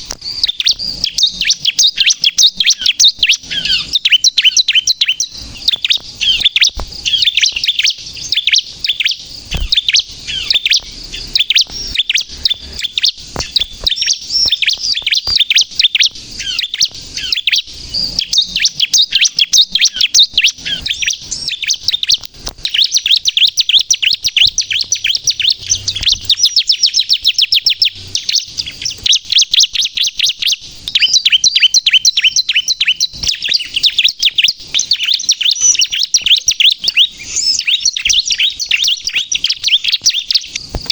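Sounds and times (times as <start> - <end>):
bird rapid high chirps: 0.0 - 40.9.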